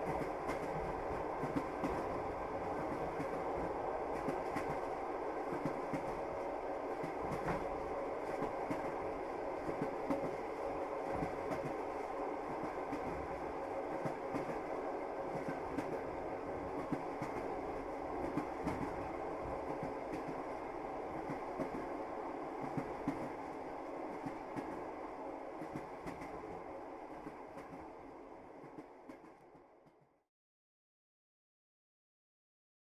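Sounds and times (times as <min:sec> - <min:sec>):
train rumbling on rails: 0:00.0 - 0:30.1.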